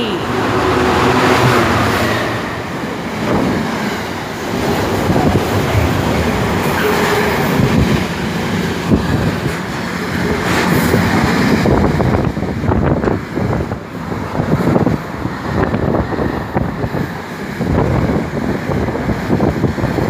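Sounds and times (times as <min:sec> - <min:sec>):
freight train rumbling past: 0:00.0 - 0:20.0
wheels clattering on rails: 0:00.5 - 0:20.0.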